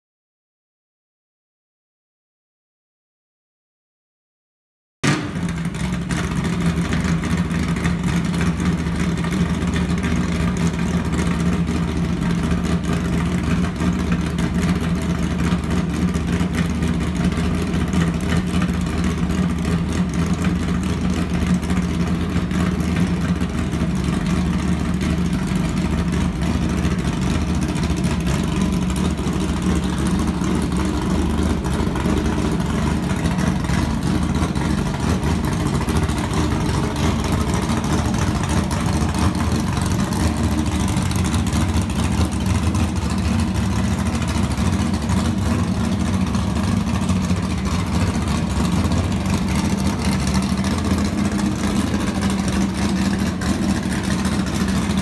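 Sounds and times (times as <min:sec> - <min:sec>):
vehicle engine idling: 0:05.1 - 0:55.0.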